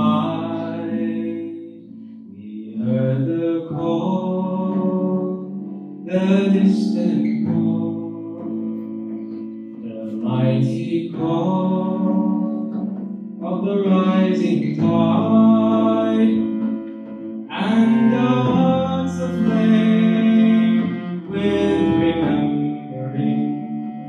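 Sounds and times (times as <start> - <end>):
bowed string instrument: 0.0 - 24.0
voices singing: 0.0 - 24.0.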